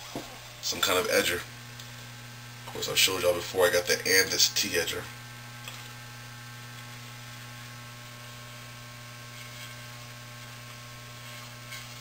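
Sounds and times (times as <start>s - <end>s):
electric hair clipper buzzing: 0.7s - 12.0s.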